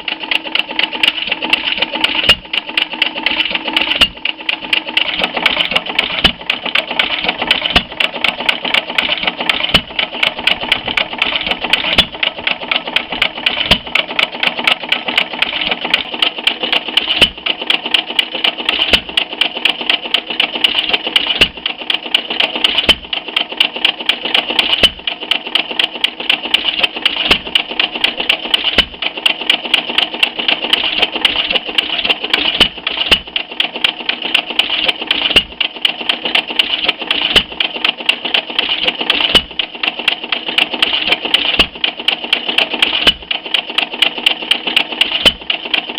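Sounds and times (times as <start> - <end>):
stationary engine clattering: 0.0 - 45.9.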